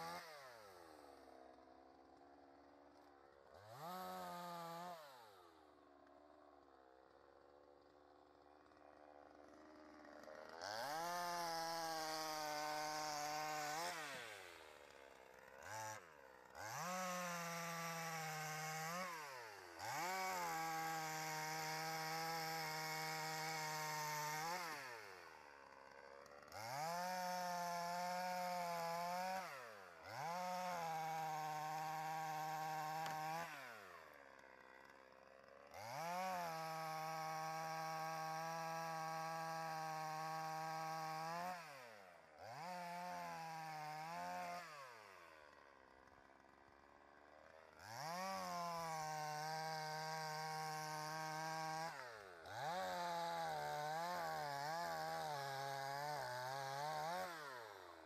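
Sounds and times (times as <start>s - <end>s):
chainsaw cutting logs: 0.0s - 58.0s.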